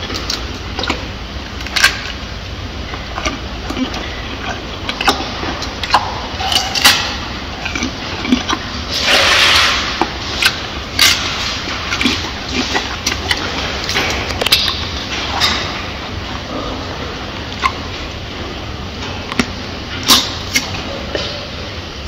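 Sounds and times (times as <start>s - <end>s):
gorilla chewing food: 0.0s - 21.8s.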